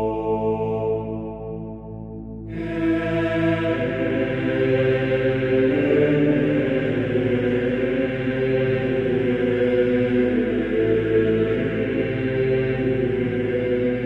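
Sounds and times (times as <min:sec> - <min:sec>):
slow vocal chanting: 0:00.0 - 0:01.7, 0:02.5 - 0:14.0.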